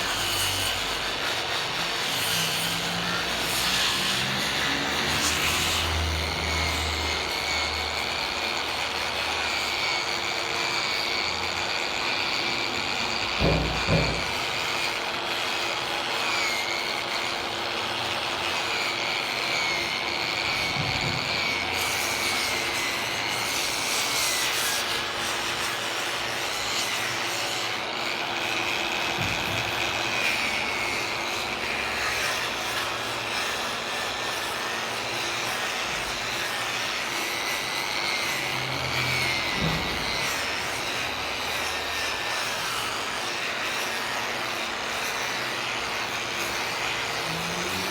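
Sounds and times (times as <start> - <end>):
power tool cutting wood: 0.0 - 47.9.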